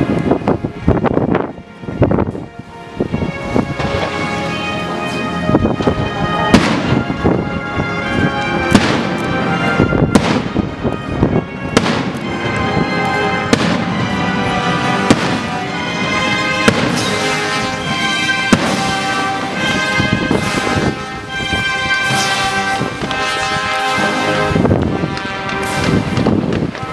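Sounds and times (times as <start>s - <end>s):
loud music: 2.6s - 26.9s
fireworks bangs: 3.1s - 26.9s
fireworks crackle: 3.1s - 26.9s.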